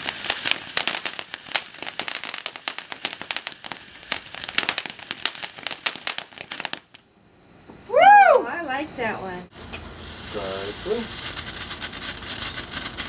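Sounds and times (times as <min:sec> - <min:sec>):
firework fountain crackling: 0:00.0 - 0:07.0, 0:08.4 - 0:13.0
small firework bursts: 0:00.0 - 0:07.0, 0:09.6 - 0:13.0.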